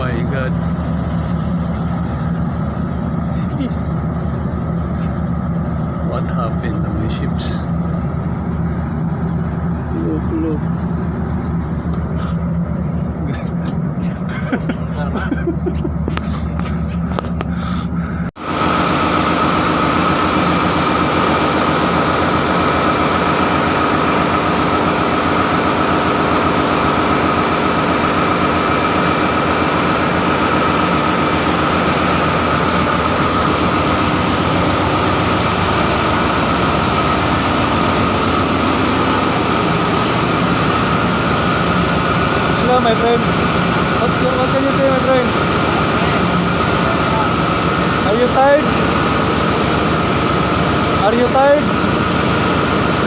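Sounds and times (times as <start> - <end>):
high steady machinery whine: 0.0 - 53.0
ship engine drone: 0.0 - 53.0.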